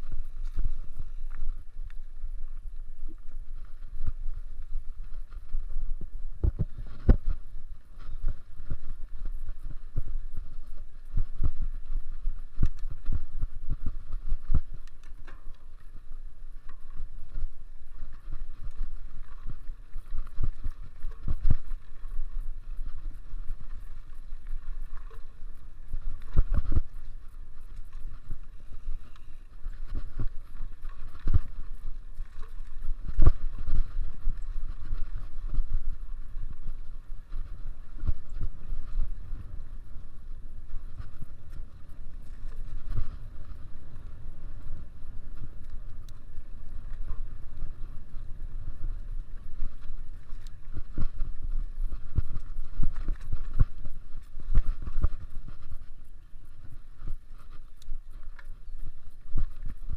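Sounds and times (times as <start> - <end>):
bike tyres rumbling on dirt: 0.0 - 59.9
wind on microphone: 0.0 - 59.9.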